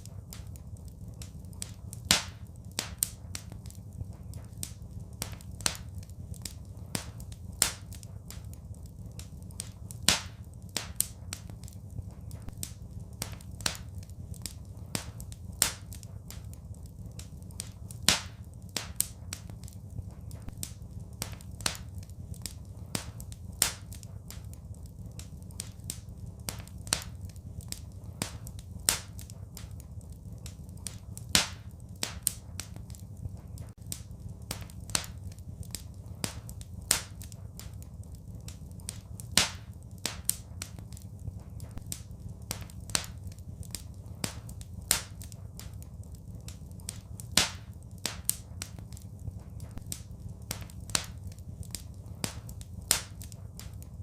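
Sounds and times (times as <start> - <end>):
low rumble: 0.0 - 47.2
wood fire crackling: 0.0 - 54.0.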